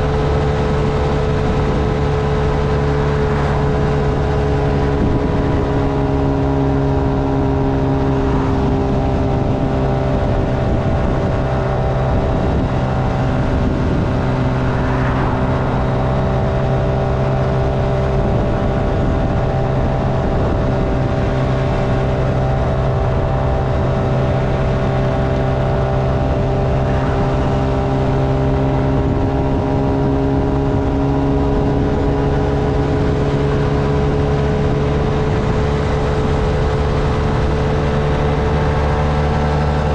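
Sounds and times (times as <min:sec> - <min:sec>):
motorcycle engine running: 0:00.0 - 0:39.9
rush of noise: 0:00.0 - 0:39.9.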